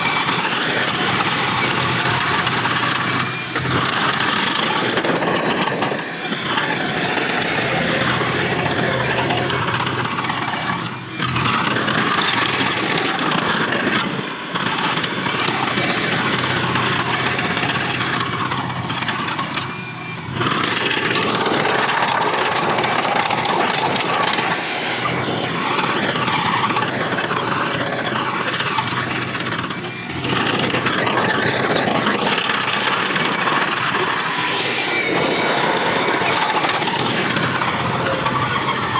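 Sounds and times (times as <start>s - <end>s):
heavy machinery diesel engines: 0.0s - 38.9s.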